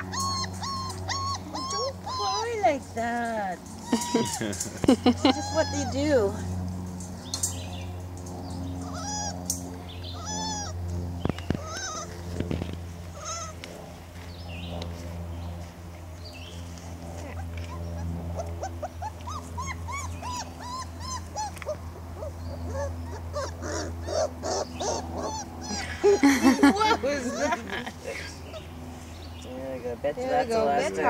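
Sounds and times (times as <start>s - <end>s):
puppies crying: 0.0s - 13.8s, 17.2s - 28.9s
steady low hum: 0.0s - 31.0s.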